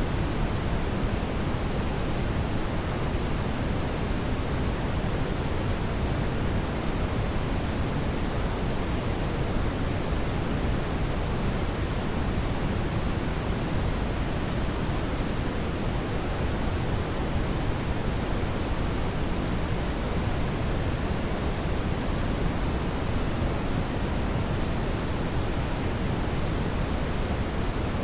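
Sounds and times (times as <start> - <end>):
brown noise hiss: 0.0 - 28.0.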